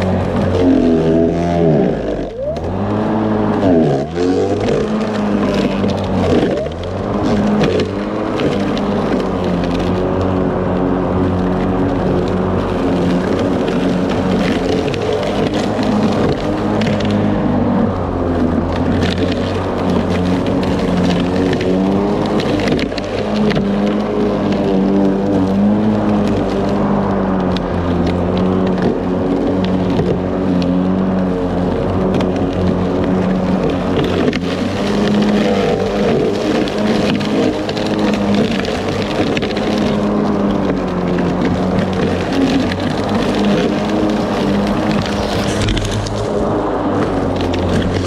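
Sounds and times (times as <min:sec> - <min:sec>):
electric lawn mower running: 0:00.0 - 0:48.0.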